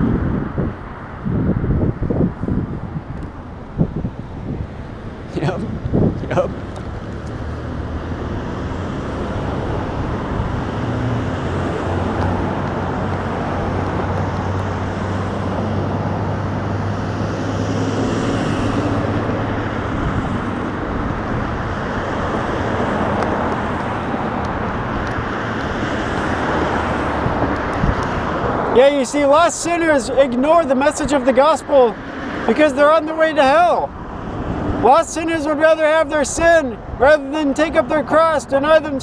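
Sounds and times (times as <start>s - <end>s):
passing cars: 0.0s - 39.0s
van passing: 0.0s - 39.0s.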